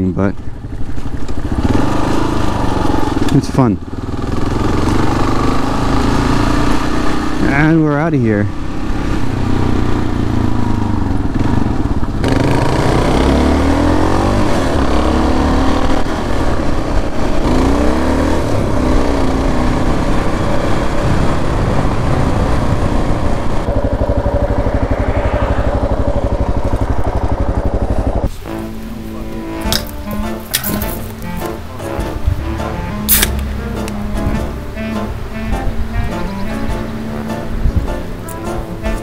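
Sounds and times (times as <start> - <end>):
motorcycle engine running: 0.0 - 39.0
wind and road noise: 0.0 - 39.0.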